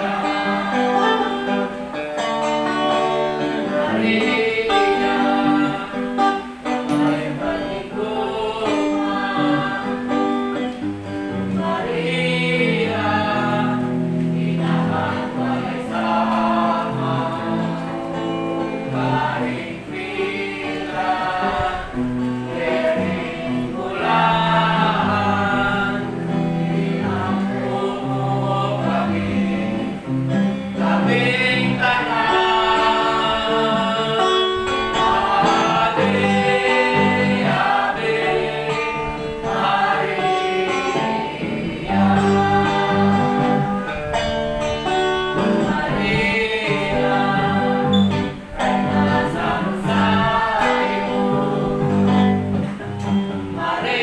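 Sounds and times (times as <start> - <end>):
voices singing gospel song: 0.0 - 54.0.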